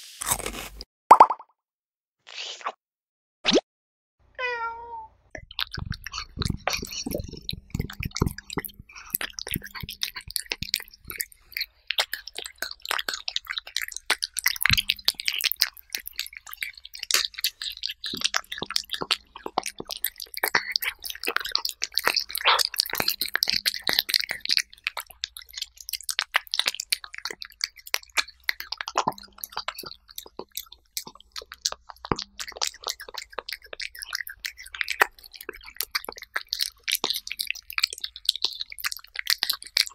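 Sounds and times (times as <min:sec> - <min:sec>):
cat chewing meat: 0:05.4 - 0:39.9.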